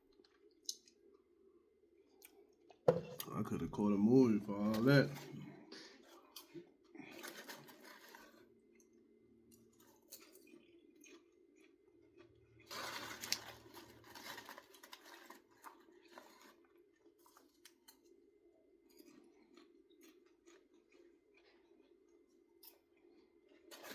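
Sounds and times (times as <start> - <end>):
chewing popcorn: 0.0 - 1.3, 2.0 - 3.4, 4.3 - 23.9.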